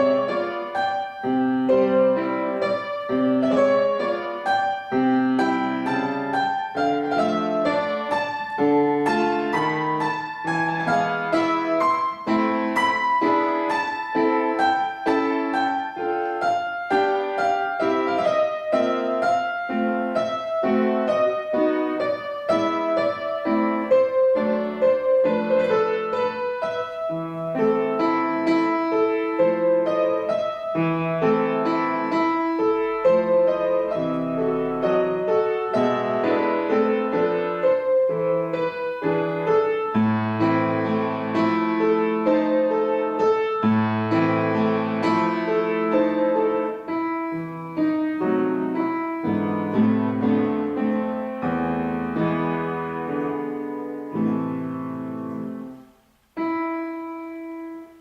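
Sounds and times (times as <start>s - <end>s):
solo piano classical piece: 0.0s - 58.0s.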